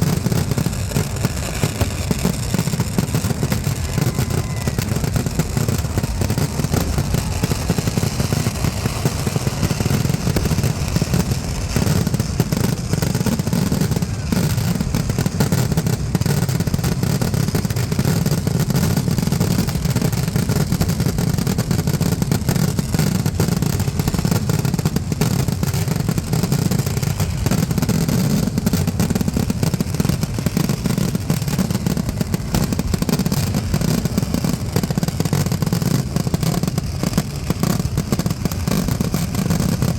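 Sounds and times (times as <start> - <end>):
firecracker explosions: 0.0 - 39.9.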